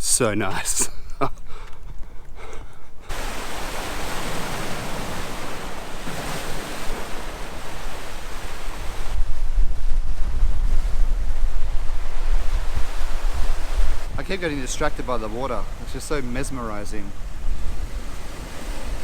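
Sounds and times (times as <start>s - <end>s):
sea waves surf: 0.0s - 19.0s
wind buffeting microphone: 0.0s - 19.0s.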